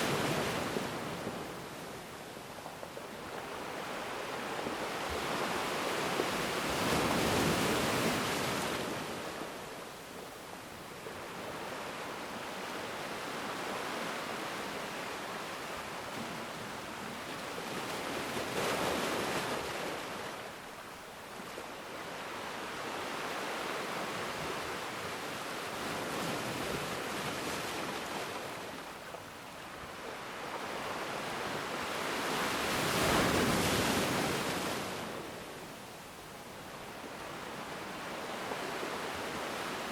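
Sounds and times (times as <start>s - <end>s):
ocean waves breaking: 0.0s - 2.2s, 2.8s - 9.7s, 11.0s - 35.5s.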